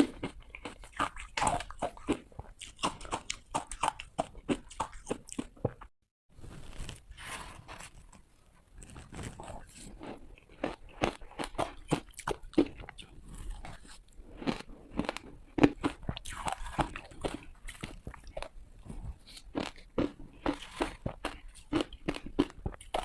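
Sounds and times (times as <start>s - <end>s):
ice crunching being chewed: 0.0s - 5.9s, 8.8s - 23.0s.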